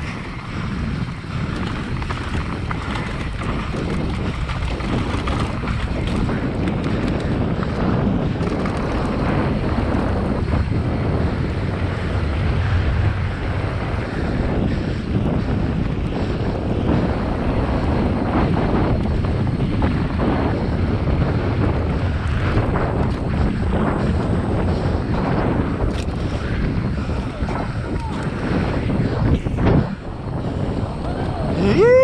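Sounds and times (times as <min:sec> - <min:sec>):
bike tyres on dirt: 0:00.0 - 0:32.0
wind on microphone: 0:00.0 - 0:32.0.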